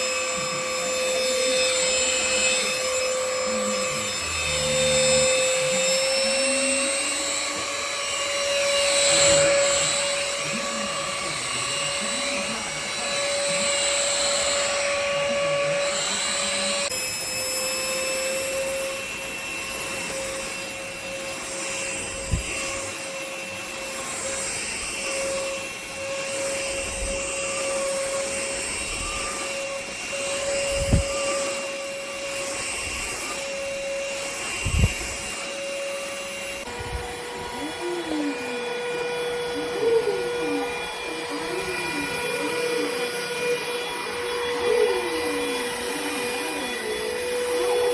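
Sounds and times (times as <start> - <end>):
vacuum motor whine: 0.0 - 47.9.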